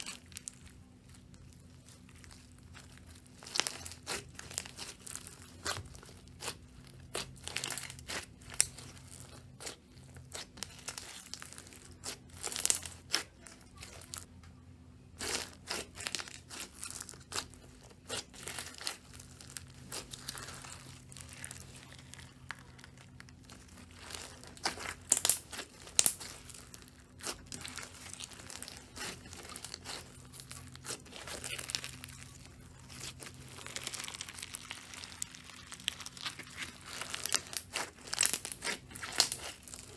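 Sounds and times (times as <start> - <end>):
slime crackling and popping: 0.0 - 14.3, 15.1 - 39.9.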